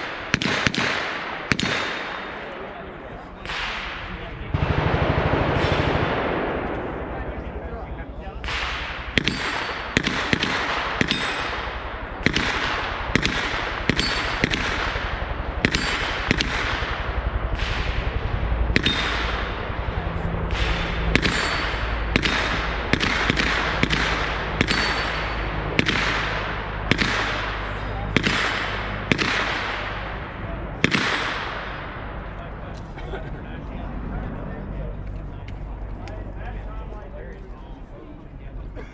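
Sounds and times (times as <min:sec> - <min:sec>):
gunshots with echoes: 0:00.0 - 0:32.8.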